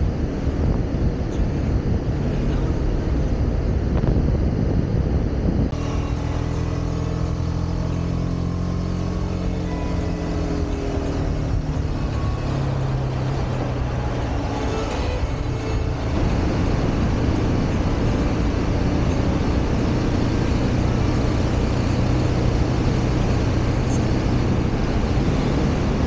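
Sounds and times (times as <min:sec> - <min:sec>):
wind rush: 0:00.0 - 0:06.5, 0:10.4 - 0:26.0
motorcycle engine running: 0:00.0 - 0:26.0.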